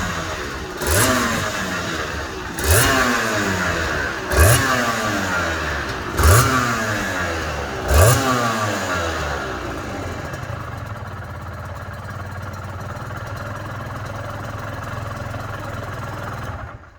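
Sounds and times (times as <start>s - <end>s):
motorcycle engine revving and idling: 0.0s - 16.9s.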